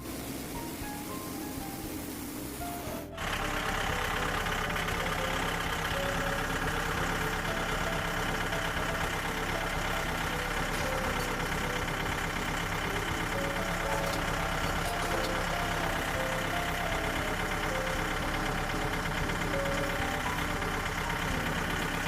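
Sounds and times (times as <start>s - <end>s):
small gas engine running: 0.0s - 22.0s.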